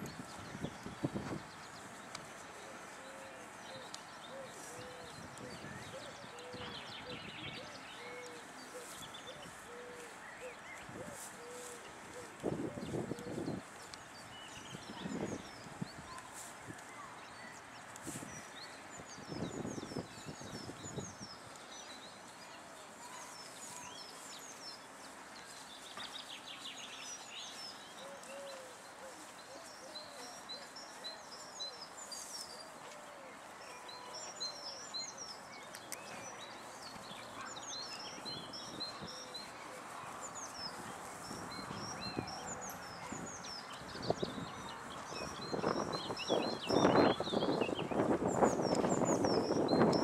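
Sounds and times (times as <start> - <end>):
outdoor background noise: 0.0 - 50.0
small birds chirping: 0.0 - 50.0.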